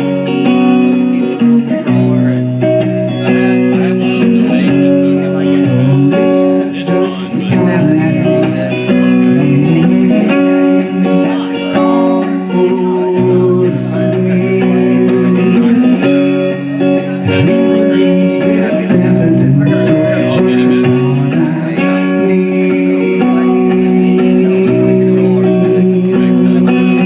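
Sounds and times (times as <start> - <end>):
guitar playing chords: 0.0 - 27.0.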